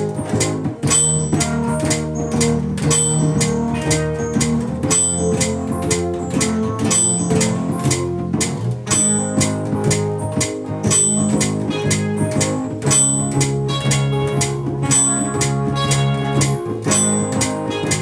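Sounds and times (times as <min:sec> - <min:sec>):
bass guitar: 0:00.0 - 0:18.0
guitar: 0:00.0 - 0:18.0
steady drum beat: 0:00.0 - 0:18.0.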